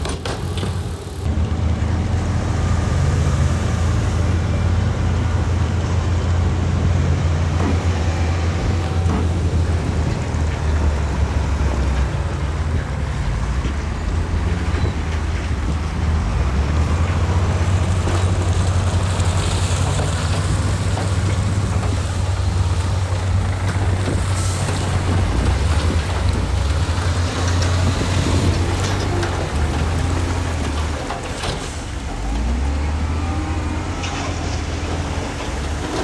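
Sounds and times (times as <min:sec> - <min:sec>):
knocks and clatter: 0:00.0 - 0:02.4, 0:05.2 - 0:32.7
heavy machinery engine drone: 0:00.0 - 0:36.0.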